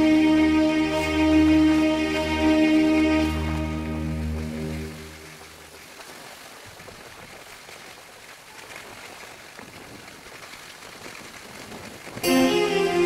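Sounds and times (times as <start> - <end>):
hiss of sliding on snow: 0.0 - 13.0.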